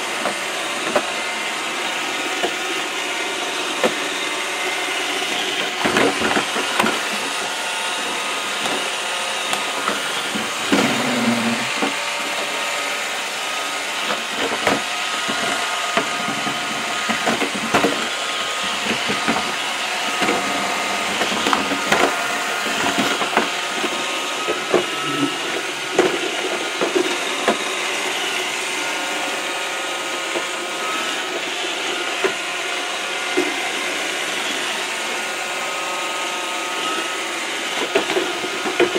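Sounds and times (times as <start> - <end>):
robot vacuum whirring: 0.0 - 38.9.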